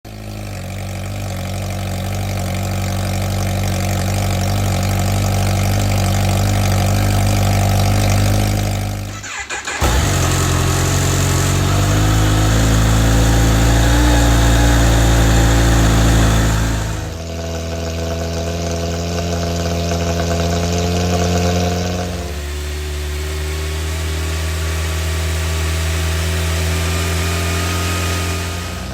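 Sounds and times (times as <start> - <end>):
motorcycle engine idling: 0.1 - 24.9.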